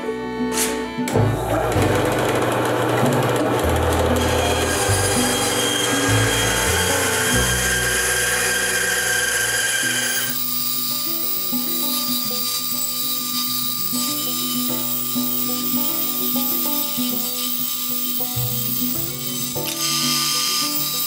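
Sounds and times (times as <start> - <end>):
background music: 0.0 - 21.0
band saw cutting wood: 0.0 - 21.0.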